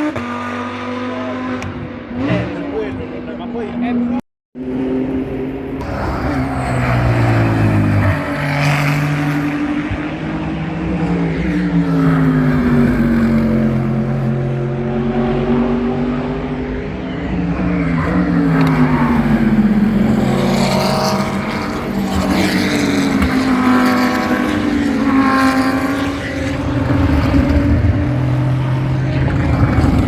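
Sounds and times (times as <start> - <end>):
race cars passing at high revs: 0.0 - 30.0.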